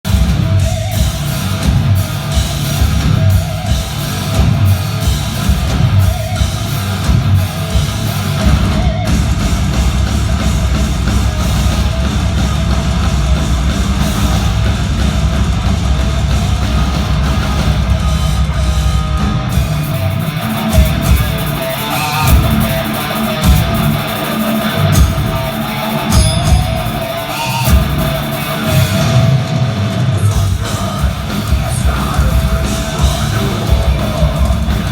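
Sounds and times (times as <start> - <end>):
heavy metal band playing live: 0.0 - 34.9.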